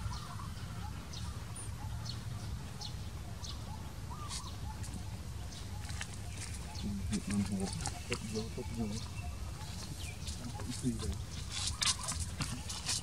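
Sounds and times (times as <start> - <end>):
high bird chirps: 0.0 - 13.0.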